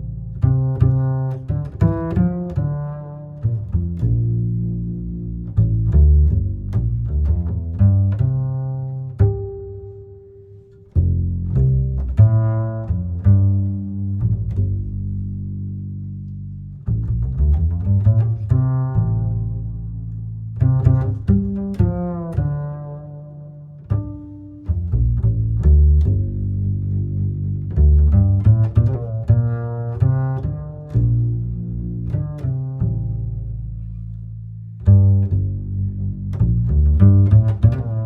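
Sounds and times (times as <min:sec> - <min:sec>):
deep bass notes: 0:00.0 - 0:38.0
pizzicato and bowed strings: 0:00.0 - 0:38.0.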